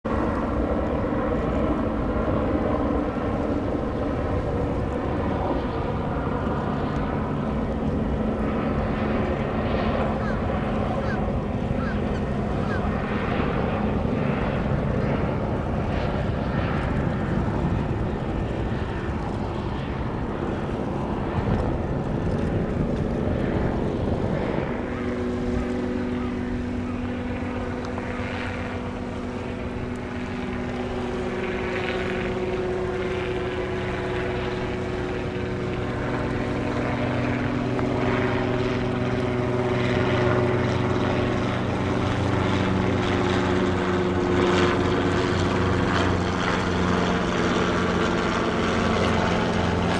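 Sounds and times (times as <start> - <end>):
engine drone: 0.1 - 49.9.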